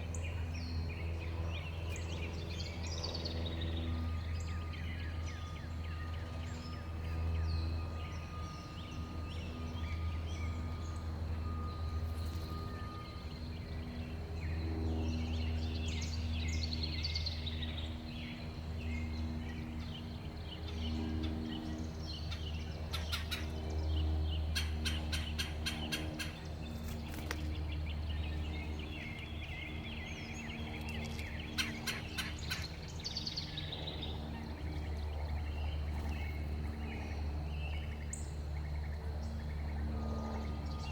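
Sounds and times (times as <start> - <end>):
birds chirping: 0.0 - 40.9
low background hum: 0.0 - 40.9.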